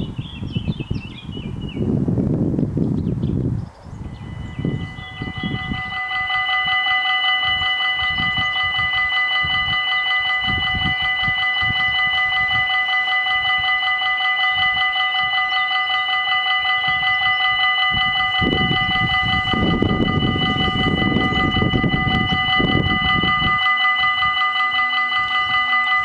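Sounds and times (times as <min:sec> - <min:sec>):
level crossing bells ringing: 0:04.0 - 0:26.0.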